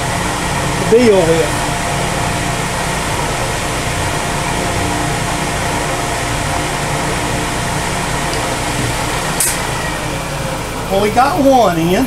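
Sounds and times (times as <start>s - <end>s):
milling machine motor hum: 0.0s - 12.0s.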